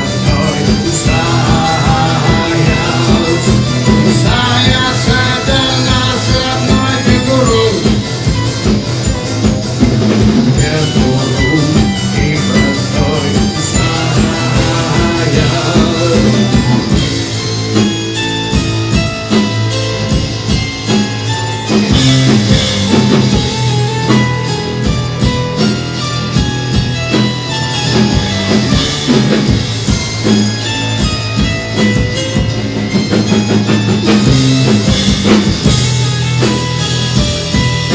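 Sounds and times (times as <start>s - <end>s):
bass guitar: 0.0s - 37.9s
drum kit: 0.0s - 37.9s
electric guitar: 0.0s - 37.9s.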